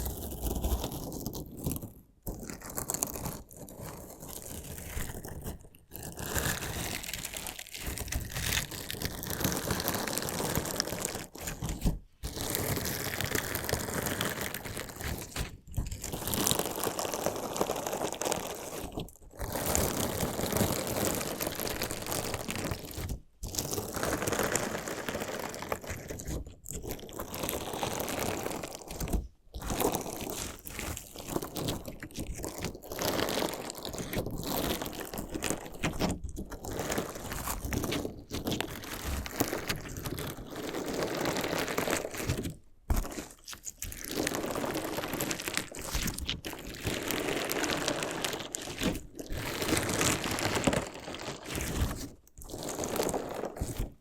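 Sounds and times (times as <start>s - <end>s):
crunchy slime crackling: 0.0s - 54.0s.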